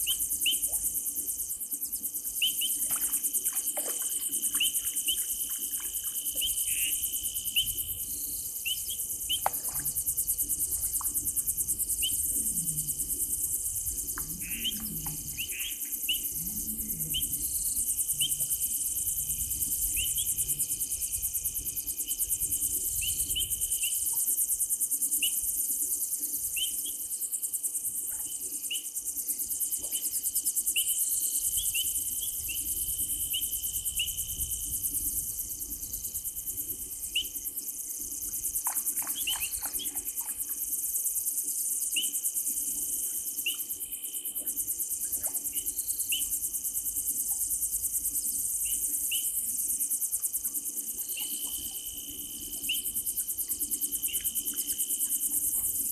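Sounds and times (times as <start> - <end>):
crickets trilling: 0.0 - 55.9.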